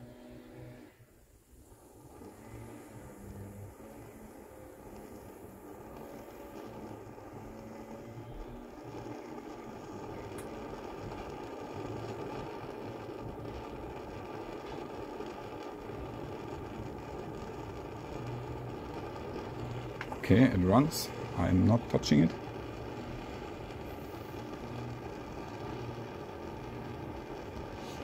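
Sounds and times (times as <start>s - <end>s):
camping stove burner hissing: 0.0s - 28.0s.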